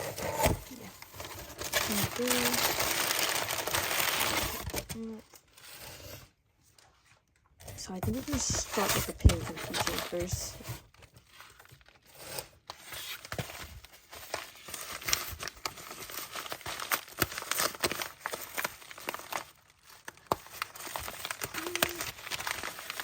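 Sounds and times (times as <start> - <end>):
packaging crinkling: 0.2 - 5.6, 8.0 - 12.1, 13.0 - 23.0.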